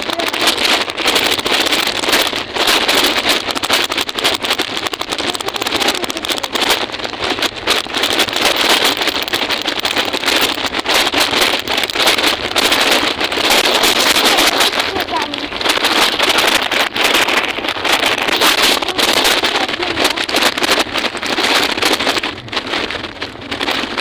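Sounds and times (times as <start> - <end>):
microphone handling rustle: 0.0 - 24.0.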